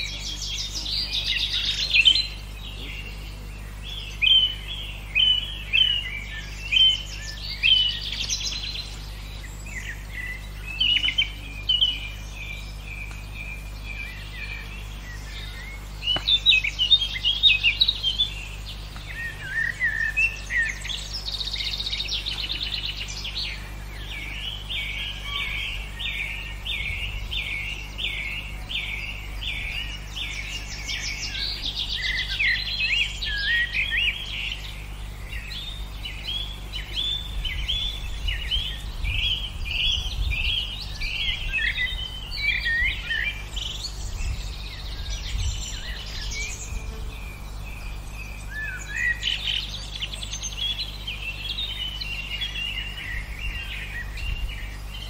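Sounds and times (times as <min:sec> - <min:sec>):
low background hum: 0:00.0 - 0:55.0
songbirds chirping: 0:00.0 - 0:55.0.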